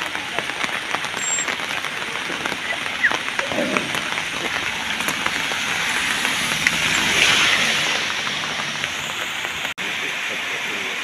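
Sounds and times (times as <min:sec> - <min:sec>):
flowing floodwater: 0:00.0 - 0:11.0
heavy rain: 0:00.0 - 0:11.0.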